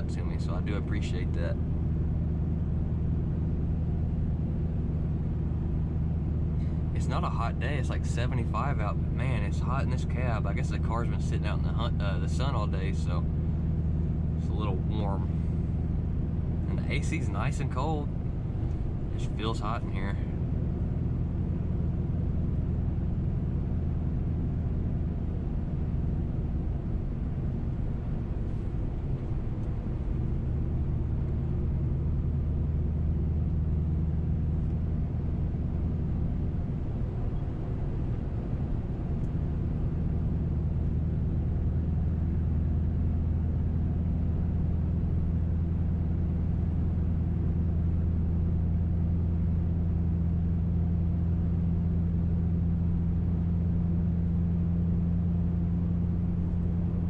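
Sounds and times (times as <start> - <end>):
car exhaust drone: 0.0 - 57.0
road noise: 0.0 - 57.0.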